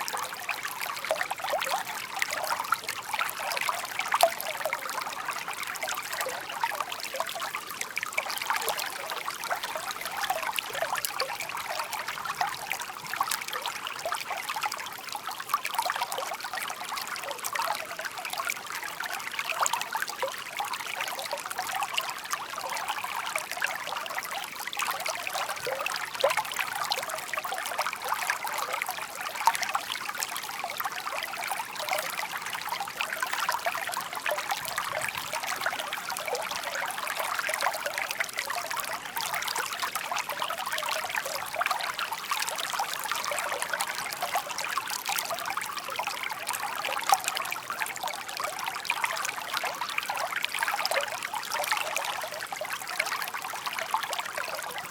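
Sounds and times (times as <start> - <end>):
stream trickling over stones: 0.0 - 54.9.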